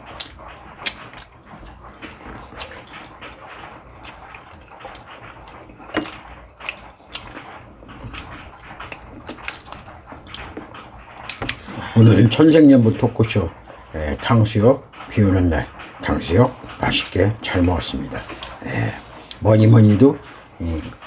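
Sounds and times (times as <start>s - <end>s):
slurping noodles: 0.0s - 12.4s, 15.4s - 21.0s
chewing: 0.0s - 14.3s, 14.9s - 21.0s
utensils against dishes: 0.0s - 21.0s.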